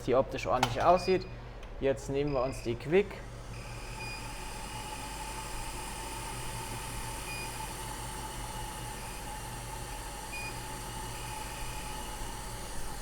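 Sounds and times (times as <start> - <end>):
hot air blower hissing: 2.6 - 13.0.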